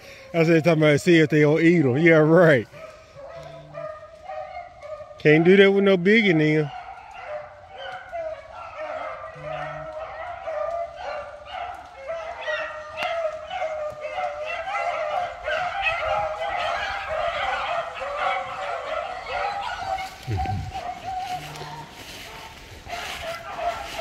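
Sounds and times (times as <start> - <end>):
dogs baying: 1.5 - 24.0.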